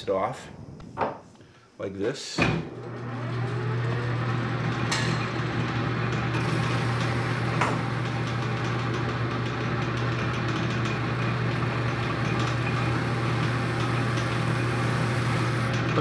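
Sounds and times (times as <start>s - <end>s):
metal lathe motor hum: 2.7s - 16.0s.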